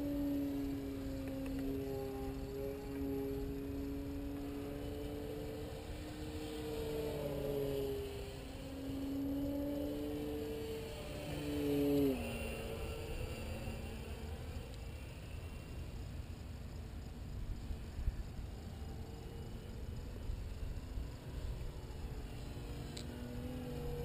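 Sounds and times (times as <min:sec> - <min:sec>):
model airplane motor humming: 0:00.0 - 0:24.0.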